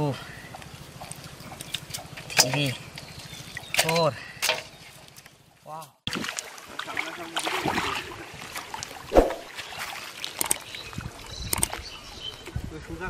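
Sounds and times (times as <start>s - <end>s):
water sloshing and splashing: 0.5s - 12.6s.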